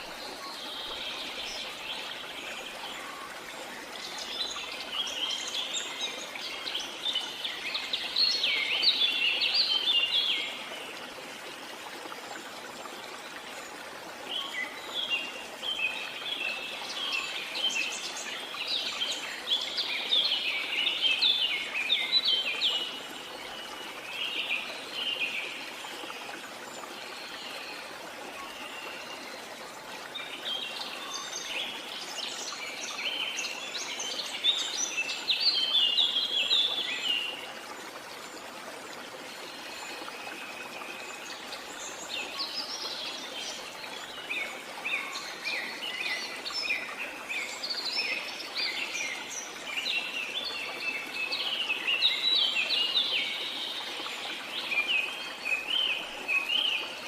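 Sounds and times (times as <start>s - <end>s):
rush of falling water: 0.0s - 57.0s.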